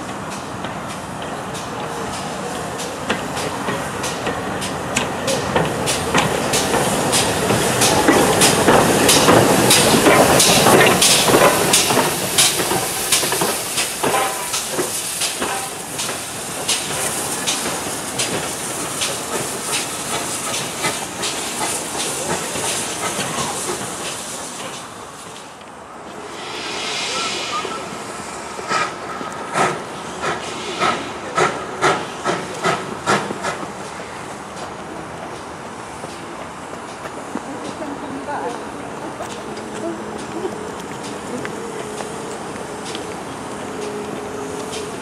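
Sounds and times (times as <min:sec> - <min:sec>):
steam hissing: 0:00.0 - 0:45.0
steam locomotive passing: 0:00.0 - 0:45.0.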